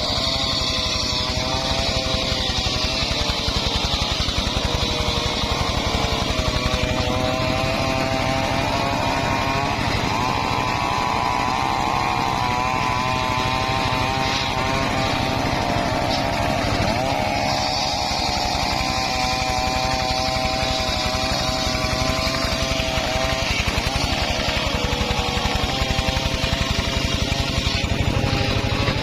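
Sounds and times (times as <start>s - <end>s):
engine-powered wood saw running: 0.0s - 29.0s.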